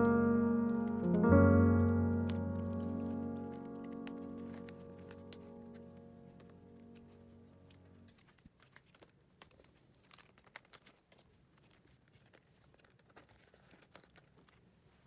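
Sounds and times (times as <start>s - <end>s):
plastic sleeves crinkling: 0.7s - 15.0s.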